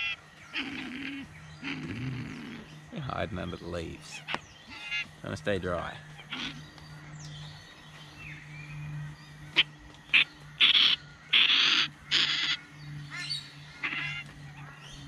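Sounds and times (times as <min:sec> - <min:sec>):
raspy hissing bird calls: 0:00.0 - 0:06.7, 0:09.6 - 0:15.0.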